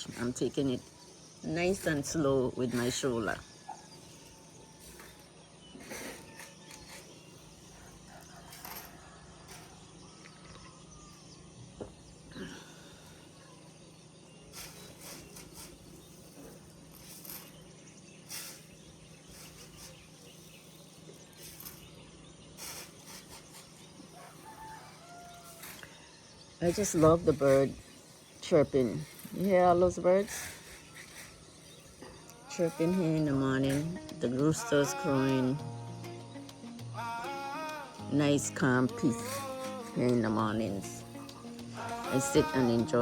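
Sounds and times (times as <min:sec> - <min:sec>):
roosters crowing: 0:00.0 - 0:17.6, 0:22.6 - 0:35.6, 0:37.0 - 0:43.0
birds chirping: 0:00.0 - 0:43.0.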